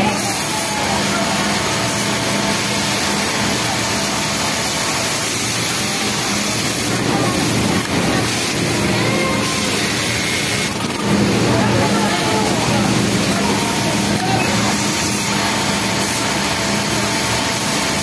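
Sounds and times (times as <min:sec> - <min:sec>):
sewing machine whirring: 0:00.0 - 0:18.0.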